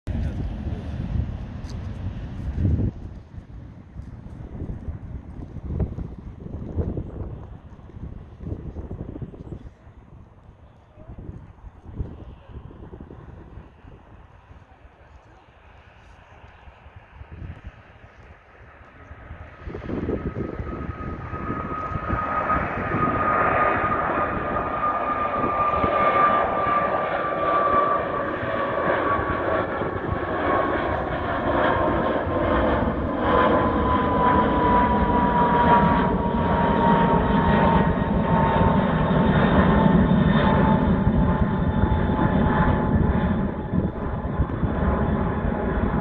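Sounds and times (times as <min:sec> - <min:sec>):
high engine whine: 0:00.1 - 0:09.6, 0:18.4 - 0:46.0
jet engines rumbling: 0:00.1 - 0:46.0.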